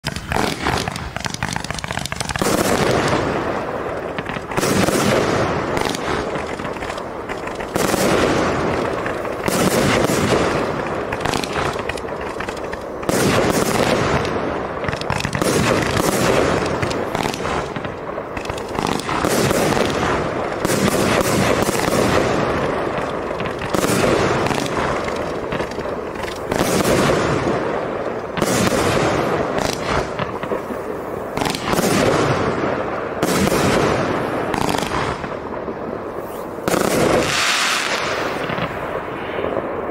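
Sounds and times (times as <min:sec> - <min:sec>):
fireworks launching and bursting: 0:00.0 - 0:39.9
loud fireworks reports: 0:00.0 - 0:39.9.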